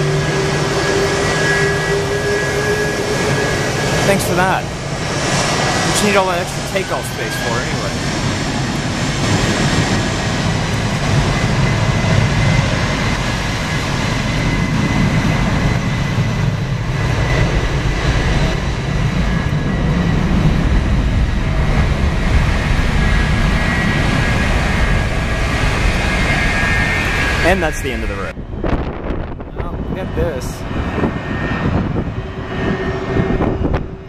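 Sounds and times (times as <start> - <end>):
high engine whine: 0.0 - 34.0
jet engines rumbling: 0.0 - 34.0.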